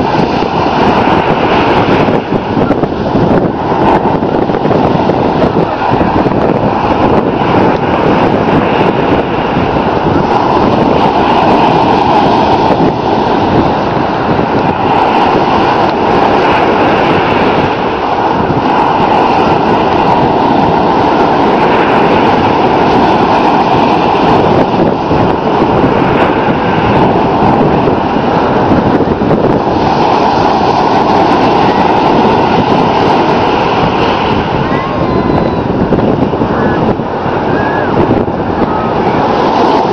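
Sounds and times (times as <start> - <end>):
ocean surf breaking: 0.0 - 39.9
wind buffeting microphone: 0.0 - 39.9.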